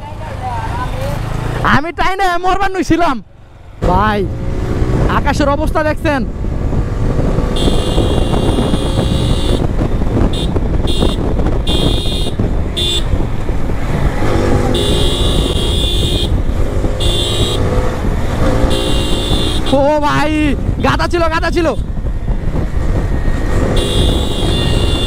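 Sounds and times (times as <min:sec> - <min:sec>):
motorcycle engine: 0:00.0 - 0:01.8, 0:03.4 - 0:21.1, 0:21.8 - 0:25.0
wind rush on microphone: 0:03.8 - 0:25.0.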